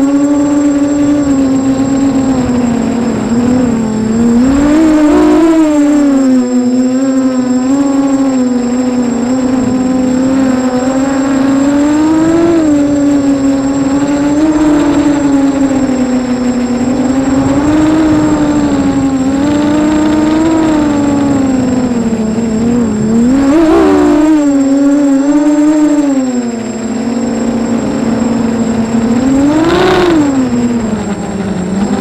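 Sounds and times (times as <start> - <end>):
quadcopter motors whining: 0.0 - 32.0.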